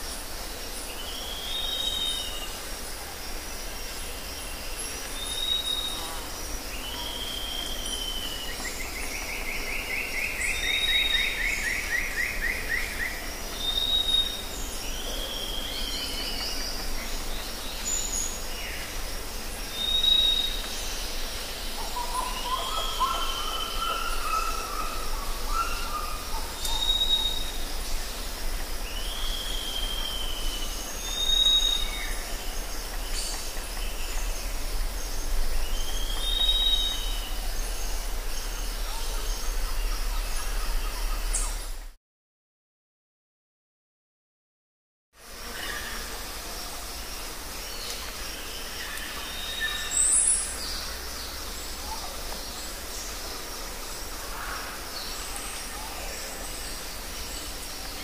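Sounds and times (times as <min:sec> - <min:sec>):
steady high-pitched hiss: 0:00.0 - 0:42.0, 0:45.2 - 0:58.0.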